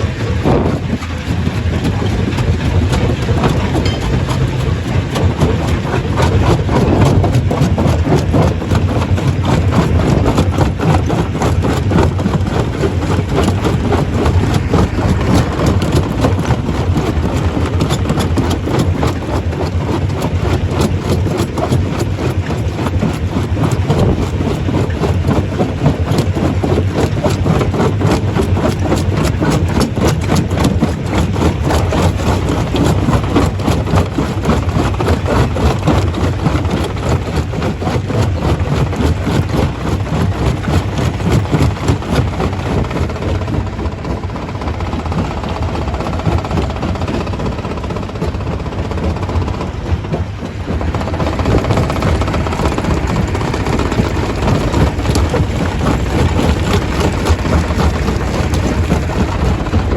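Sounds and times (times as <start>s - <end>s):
heavy machine drone: 0.0s - 59.9s
rock rattling and knocking: 0.0s - 59.9s.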